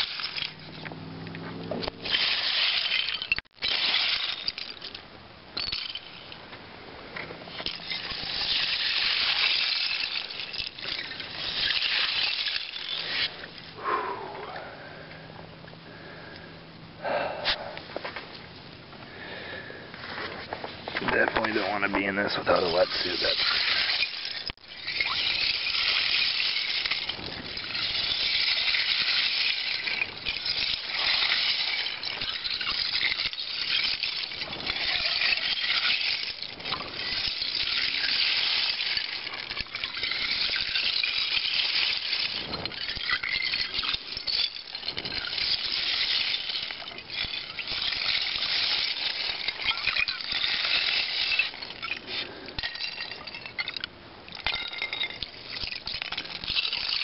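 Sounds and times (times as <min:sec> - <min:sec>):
ice clinking and crackling: 0:00.0 - 0:00.9, 0:01.8 - 0:13.8, 0:19.2 - 0:57.0.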